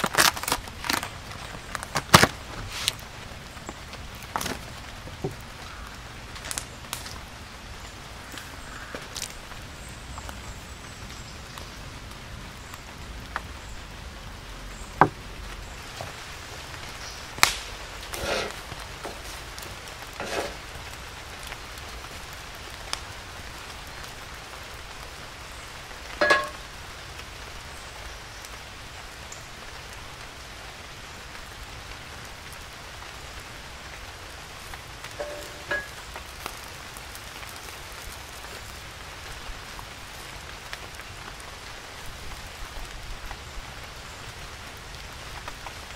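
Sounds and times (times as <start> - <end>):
wood fire crackling and popping: 0.0 - 10.4, 12.0 - 27.4, 32.3 - 45.9.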